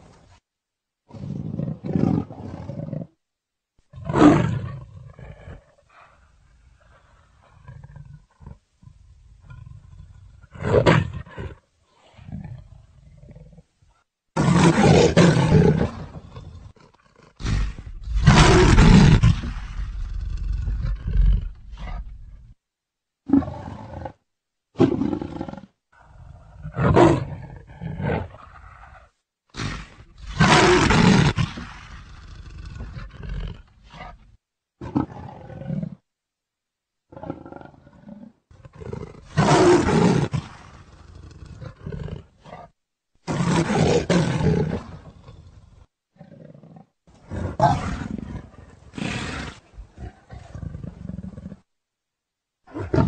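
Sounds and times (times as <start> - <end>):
leopard roaring: 3.9 - 13.6, 14.4 - 22.6, 23.2 - 24.2, 24.8 - 34.2, 34.8 - 36.0, 37.1 - 51.7, 52.7 - 53.0.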